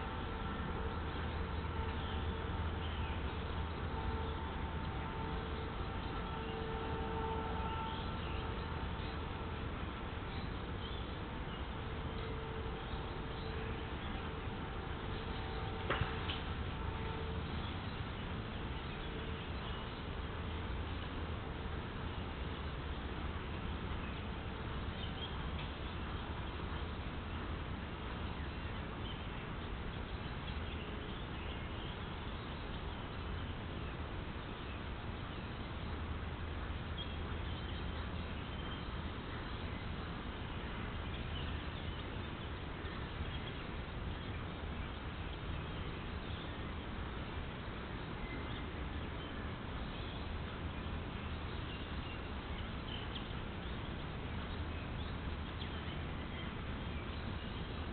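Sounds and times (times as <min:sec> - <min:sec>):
microphone hiss: 0:00.0 - 0:57.9.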